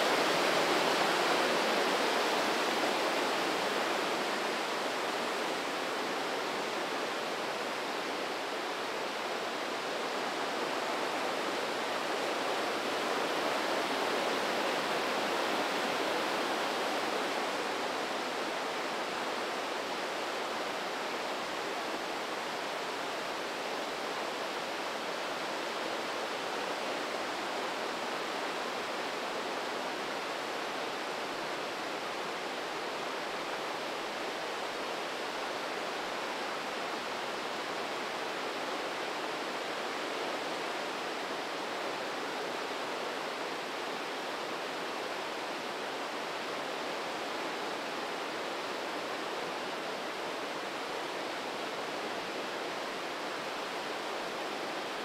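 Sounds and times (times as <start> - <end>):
river rushing through gorge: 0.0 - 55.0.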